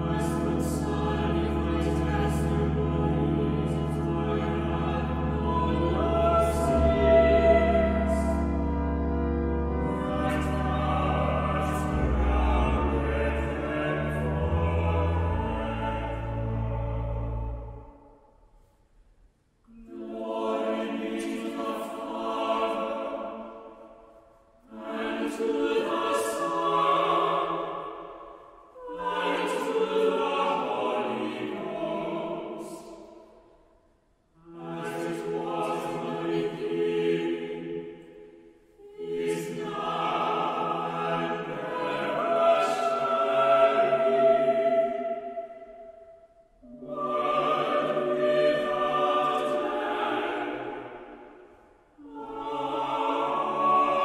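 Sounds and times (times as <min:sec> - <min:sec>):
mixed choir singing: 0:00.0 - 0:17.9, 0:19.7 - 0:23.8, 0:24.6 - 0:33.1, 0:34.4 - 0:54.0.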